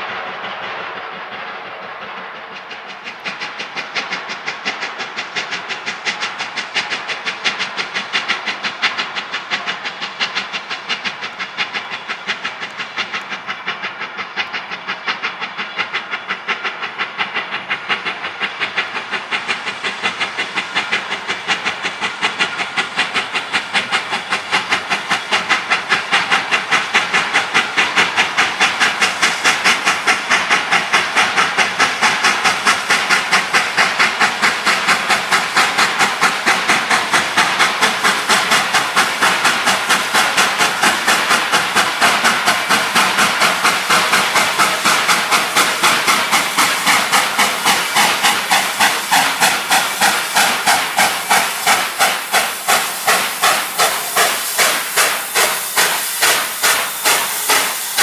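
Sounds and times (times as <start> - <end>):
steam hiss: 0.0 - 58.0
steam locomotive chuffing: 0.0 - 58.0.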